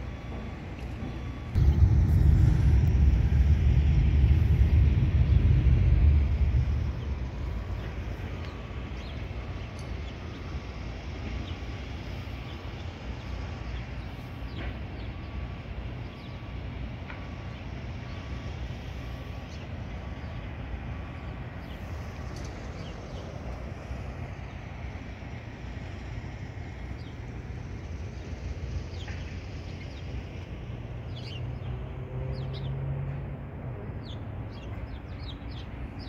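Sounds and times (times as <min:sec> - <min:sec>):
distant traffic: 0:00.0 - 0:36.0
wind rumble: 0:01.3 - 0:32.1.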